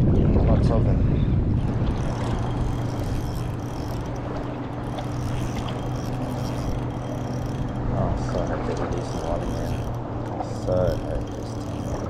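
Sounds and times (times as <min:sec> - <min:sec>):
wind and water rushing: 0:00.0 - 0:12.0
boat motor humming: 0:01.2 - 0:12.0.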